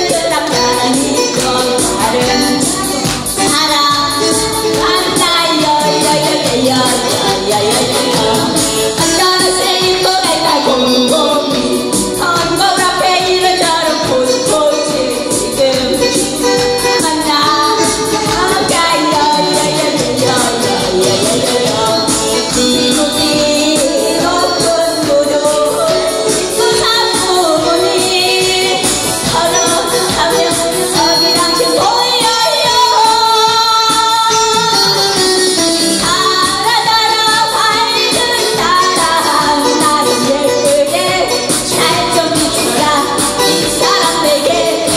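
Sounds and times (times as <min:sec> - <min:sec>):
karaoke backing track with beat: 0:00.0 - 0:44.9
woman singing into a microphone: 0:00.0 - 0:44.9.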